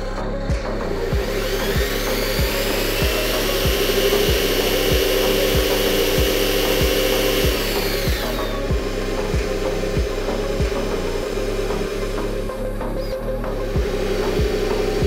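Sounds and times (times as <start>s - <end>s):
background music with steady beat: 0.0s - 15.0s
electric motor and gearbox whining: 0.0s - 15.0s.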